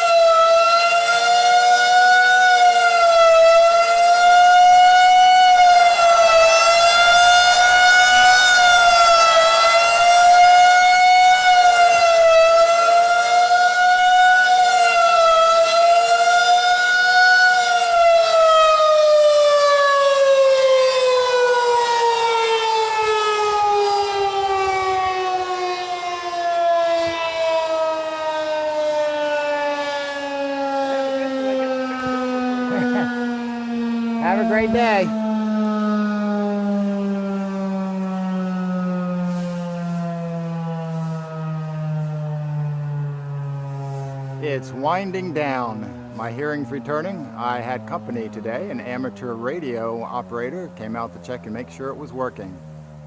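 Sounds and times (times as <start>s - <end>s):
warning siren wailing: 0.0s - 53.0s.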